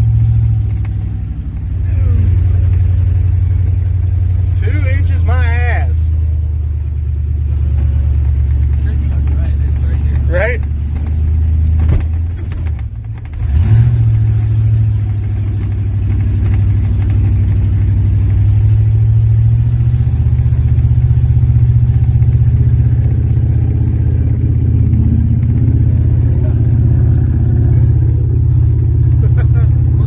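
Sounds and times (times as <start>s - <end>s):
pickup engine pulling under load: 0.0s - 30.0s.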